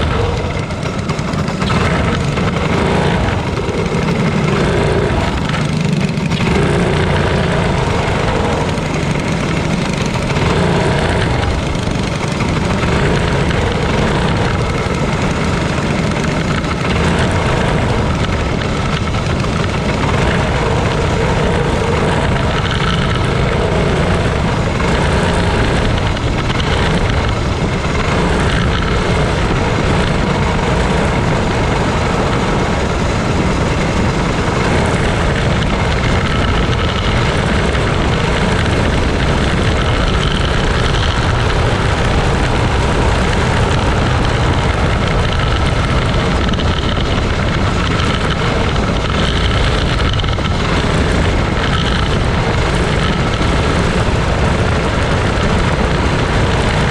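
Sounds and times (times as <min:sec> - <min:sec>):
go-kart engine running hard: 0:00.0 - 0:56.9
wind noise on camera: 0:00.0 - 0:56.9.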